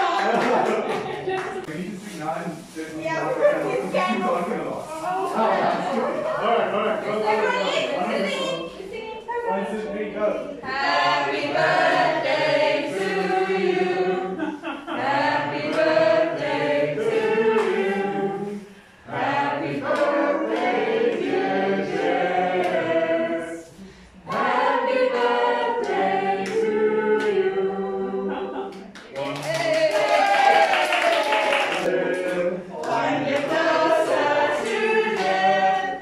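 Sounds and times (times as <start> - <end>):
group singing unaccompanied: 3.6 - 8.6, 9.5 - 28.9, 29.8 - 36.0.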